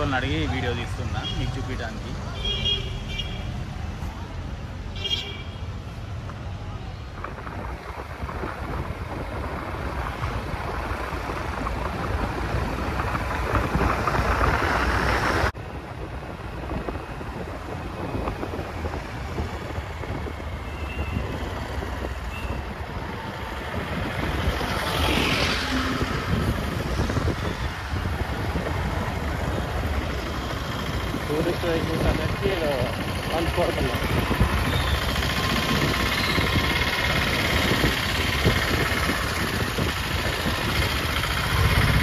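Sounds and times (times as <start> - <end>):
wind noise on microphone: 3.2 - 42.0.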